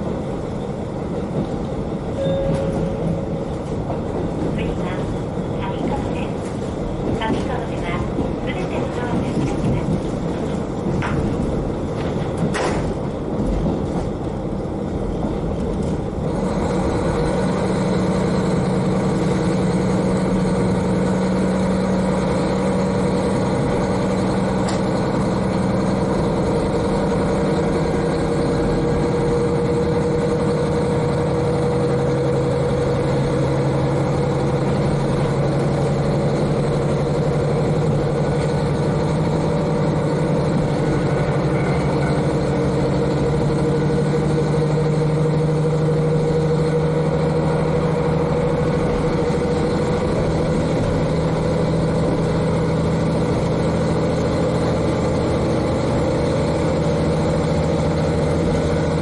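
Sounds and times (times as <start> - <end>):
diesel railcar engine running: 0.0 - 59.0.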